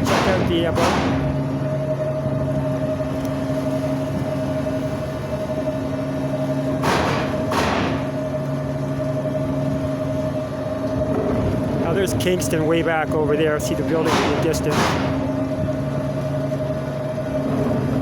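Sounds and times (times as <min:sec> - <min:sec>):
ferry machinery hum: 0:00.0 - 0:18.0.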